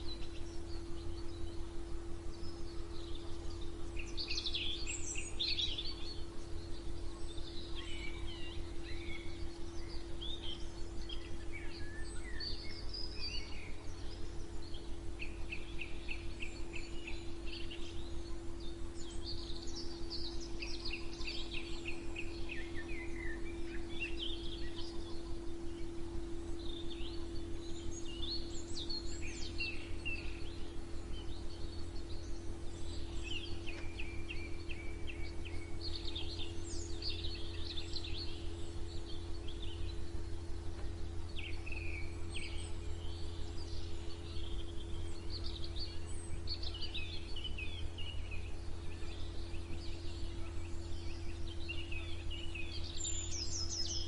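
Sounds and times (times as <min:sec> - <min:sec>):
bird trills: 0:00.0 - 0:54.0
low hum and rumble: 0:00.0 - 0:54.0
songbirds chirping and singing: 0:00.0 - 0:54.0.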